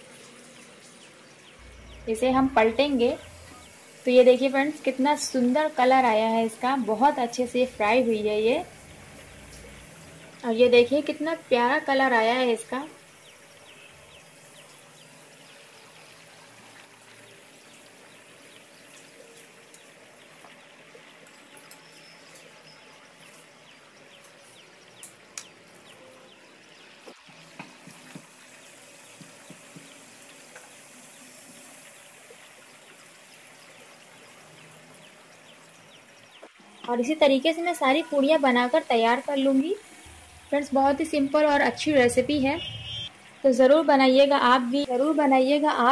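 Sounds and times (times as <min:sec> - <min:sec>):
food sizzling in hot oil: 0:00.0 - 0:25.7, 0:26.5 - 0:45.9.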